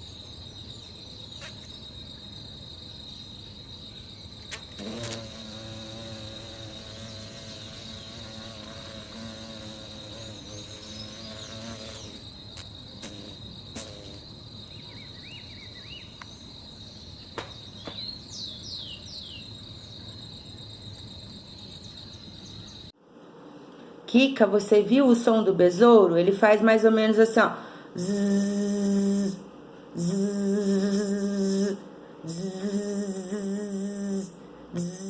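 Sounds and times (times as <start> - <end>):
high-pitched insect trill: 0.0 - 22.9, 26.5 - 35.0
flying beetle droning hum: 0.0 - 35.0.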